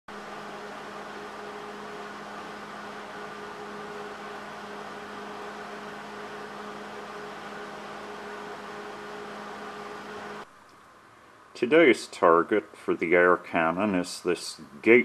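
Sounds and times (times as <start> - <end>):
steady mechanical hum: 0.1 - 15.0.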